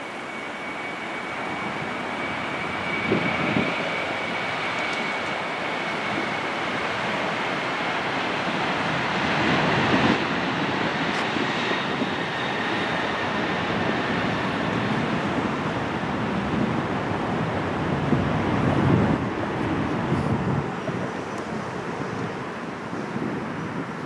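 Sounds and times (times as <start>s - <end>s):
faint high whine: 0.0s - 23.0s
jet engine roar: 0.0s - 24.0s.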